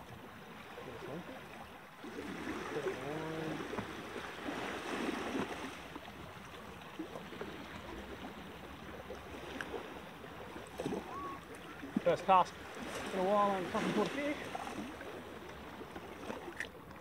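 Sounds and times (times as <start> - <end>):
waves lapping against rocks: 0.0 - 17.0.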